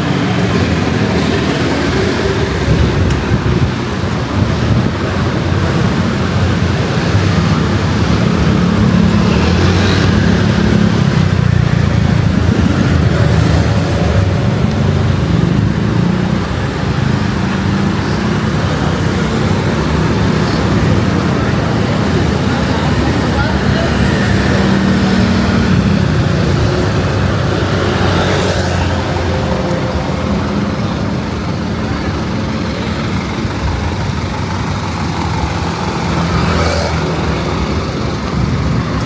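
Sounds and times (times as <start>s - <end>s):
street traffic: 0.0s - 39.0s
wind buffeting microphone: 0.0s - 39.0s.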